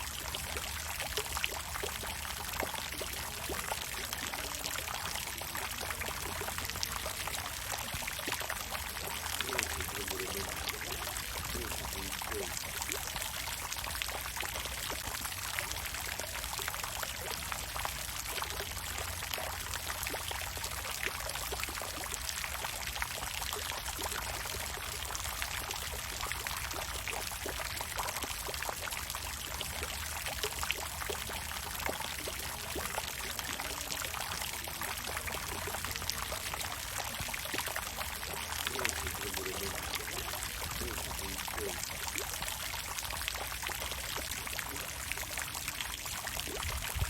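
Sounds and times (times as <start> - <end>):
water fountain splashing: 0.0 - 47.0.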